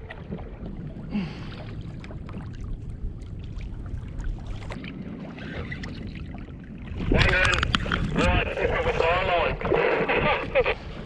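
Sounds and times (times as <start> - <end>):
rush of water: 0.0 - 11.0
water lapping around kayak: 0.0 - 11.0.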